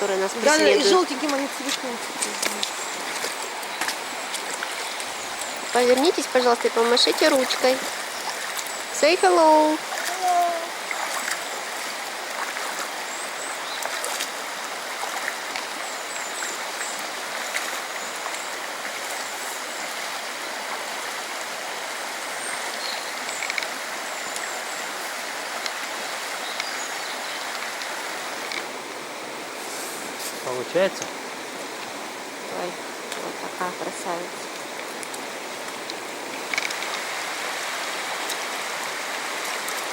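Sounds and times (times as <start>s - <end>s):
fast-flowing mountain stream: 0.0s - 39.9s.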